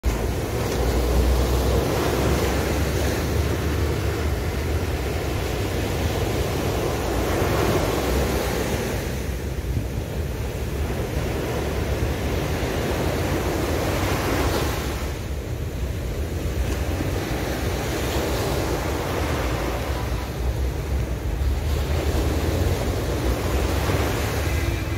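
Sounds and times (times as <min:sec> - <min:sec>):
sea waves breaking on beach: 0:00.0 - 0:24.9
wind rumble on microphone: 0:00.0 - 0:24.9.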